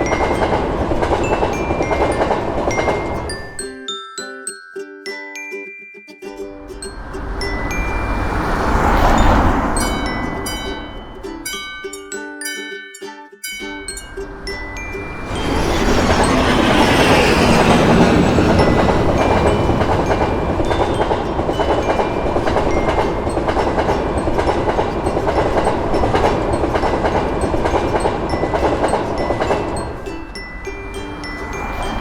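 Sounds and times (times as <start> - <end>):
train rumble and wheel clatter: 0.0 - 3.6, 6.7 - 11.5, 13.8 - 32.0
crossing warning bell: 0.0 - 4.3, 6.5 - 12.9, 13.5 - 32.0.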